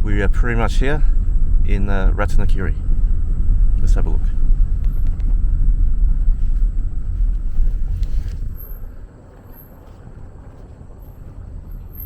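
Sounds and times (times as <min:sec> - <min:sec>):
vehicle rumble on road: 0:00.0 - 0:12.0.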